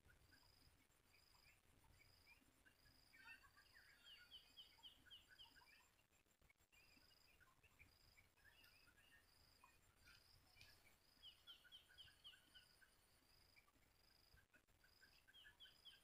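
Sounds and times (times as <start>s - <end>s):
faint birdsong chirps: 0.0s - 16.0s.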